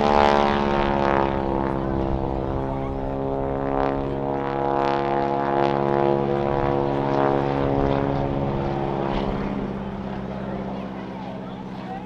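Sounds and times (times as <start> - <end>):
biplane engine droning: 0.0 - 12.0.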